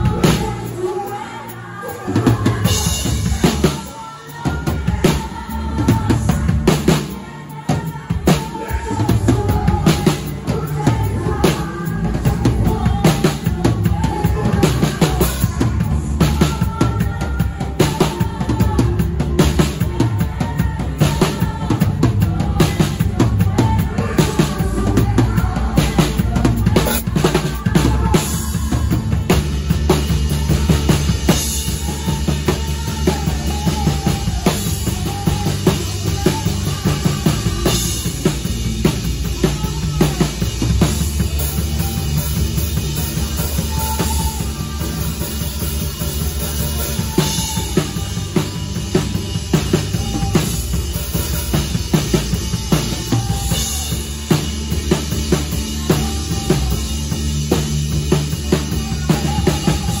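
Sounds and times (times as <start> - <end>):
low bass notes: 0.0 - 1.3, 2.0 - 60.0
band playing: 0.0 - 60.0
drum kit groove: 0.0 - 60.0.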